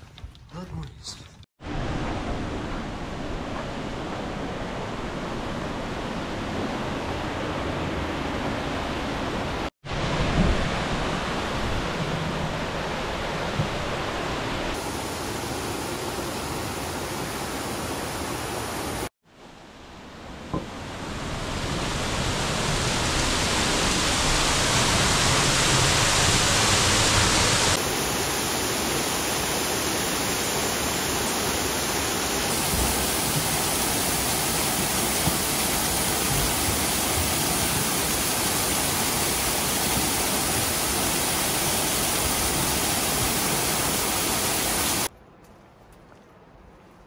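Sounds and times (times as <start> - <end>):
waterfall rushing: 1.7 - 19.1, 20.7 - 45.1.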